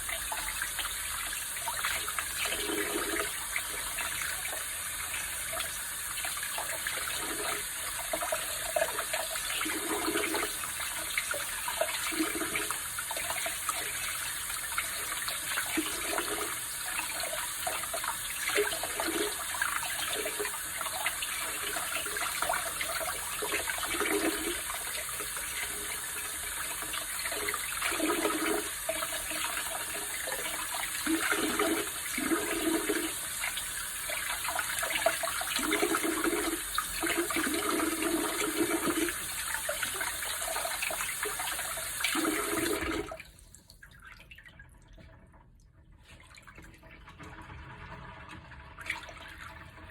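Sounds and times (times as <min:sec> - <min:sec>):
tap water running into sink: 0:00.0 - 0:43.4.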